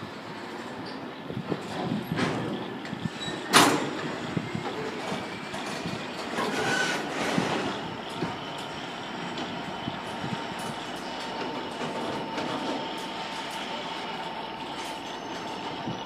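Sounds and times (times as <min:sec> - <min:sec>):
freight train wagons rumbling: 0:00.0 - 0:16.0.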